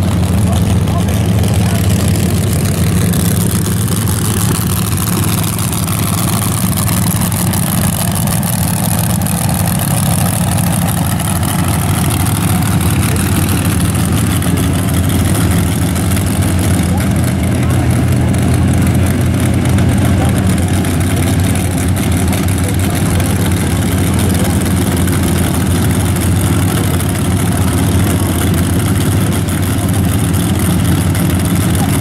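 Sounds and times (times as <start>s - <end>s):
dragster engine idling loudly: 0.0s - 32.0s.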